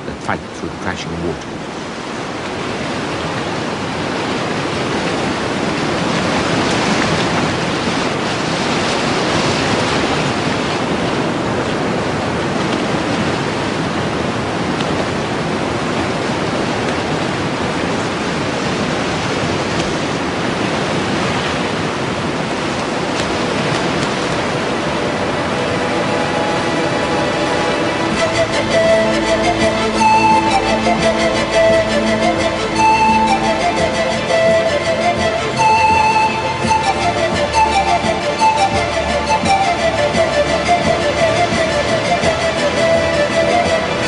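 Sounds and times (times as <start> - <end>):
water rushing through rapids: 0.0 - 44.0.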